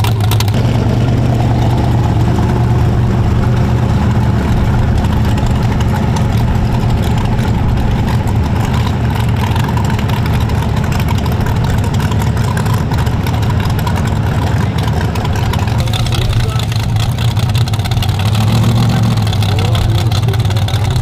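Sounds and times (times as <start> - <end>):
truck engine idling loudly: 0.0 - 21.0.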